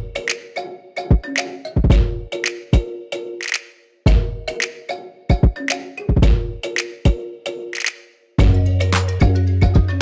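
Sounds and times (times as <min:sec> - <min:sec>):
music with percussive beat: 0:00.0 - 0:10.0.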